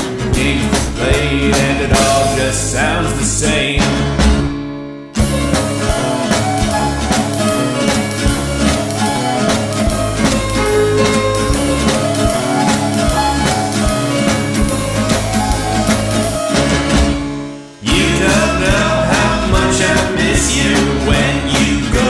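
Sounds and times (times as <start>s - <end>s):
instrumental rock band music: 0.0s - 22.0s.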